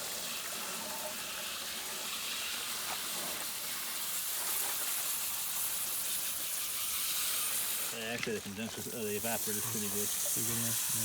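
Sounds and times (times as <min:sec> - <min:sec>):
water spraying on metal coils: 0:00.0 - 0:11.0.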